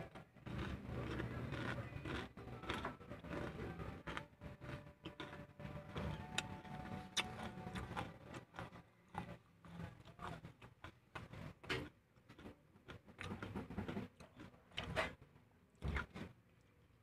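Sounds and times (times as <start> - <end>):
chewing mouth sounds: 0.5 - 6.5, 7.1 - 14.9.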